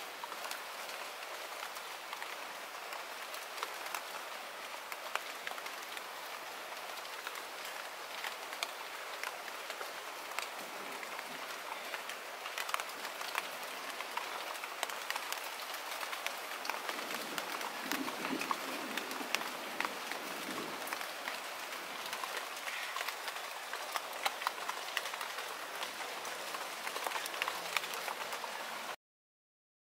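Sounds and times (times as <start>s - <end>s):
rain pattering on water: 0.0s - 29.0s.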